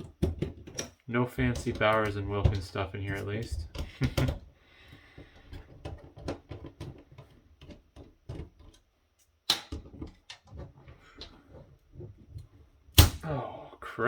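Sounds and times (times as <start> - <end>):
plastic and metal parts clicking: 0.0 - 11.7.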